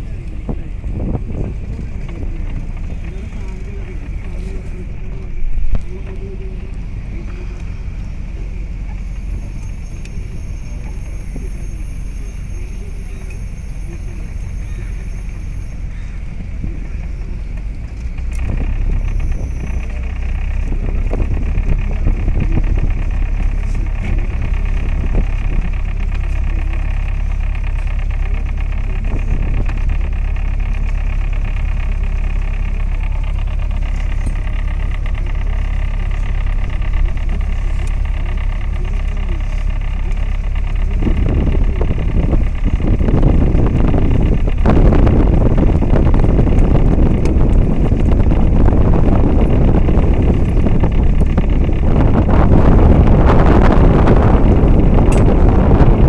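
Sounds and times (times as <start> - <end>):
wind on microphone: 0.0 - 17.5, 18.2 - 56.0
boat engine rumbling: 0.0 - 56.0.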